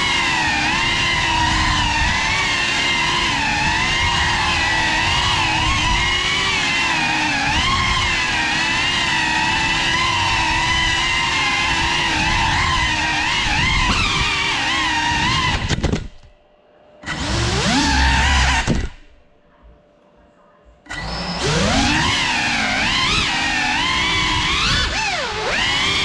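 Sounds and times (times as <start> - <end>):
drone motors whining: 0.0 - 19.3, 20.9 - 26.0.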